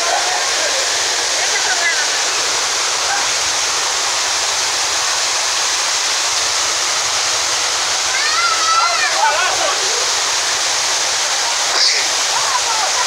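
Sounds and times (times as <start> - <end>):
waterfall roaring over rocks: 0.0 - 13.0.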